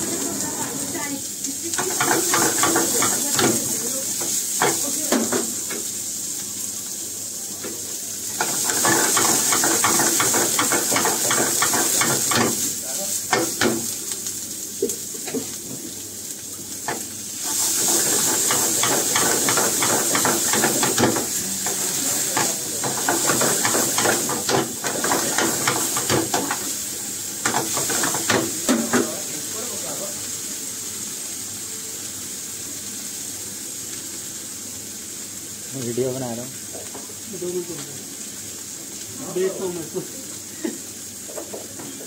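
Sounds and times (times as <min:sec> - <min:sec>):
vegetables sizzling in a frying pan: 0:00.0 - 0:42.0.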